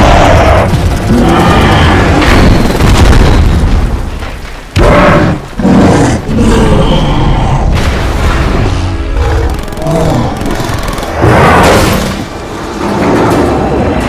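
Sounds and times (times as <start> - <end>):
deep booms and explosions: 0.0 - 14.0.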